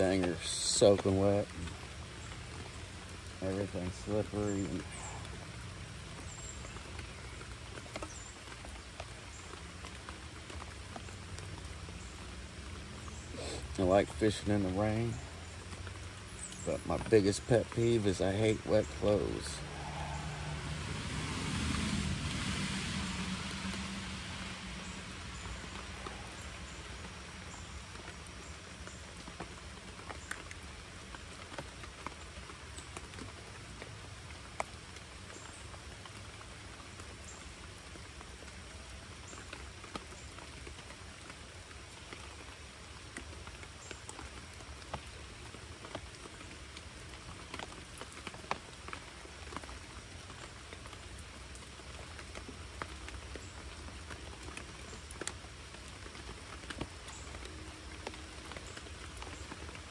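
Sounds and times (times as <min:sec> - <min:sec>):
rain falling on a creek: 0:00.0 - 0:59.9
raindrops ticking close by: 0:00.0 - 0:59.9.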